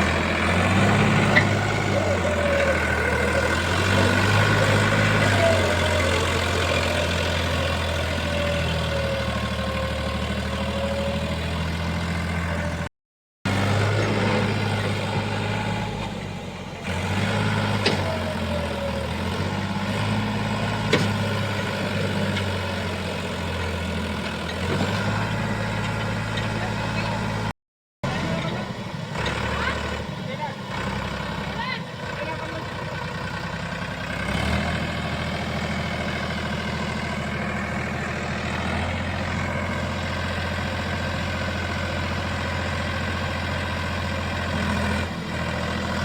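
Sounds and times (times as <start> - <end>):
tractor diesel engine running: 0.0 - 12.9, 13.5 - 46.0.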